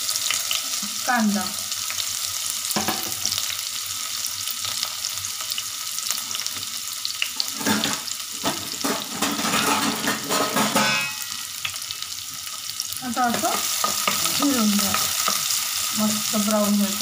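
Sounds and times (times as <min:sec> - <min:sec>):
onion frying in hot oil: 0:00.0 - 0:17.0.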